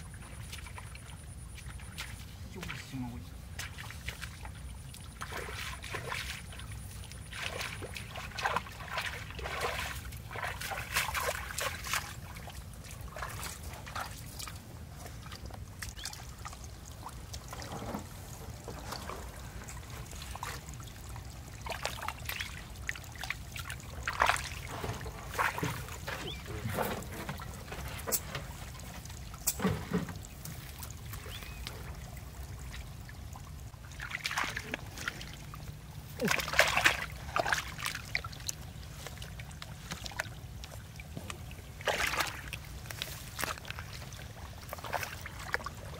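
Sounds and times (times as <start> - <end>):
splashing through shallow water: 0.0 - 45.9
water trickling: 0.0 - 45.9.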